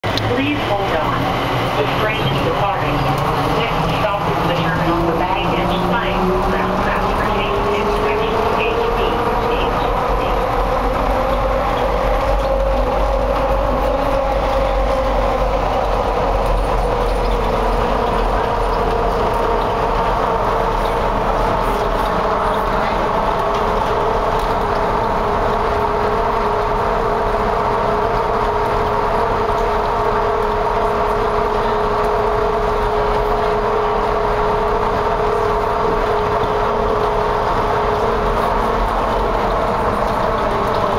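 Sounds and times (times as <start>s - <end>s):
train rumbling with whine: 0.0s - 40.9s.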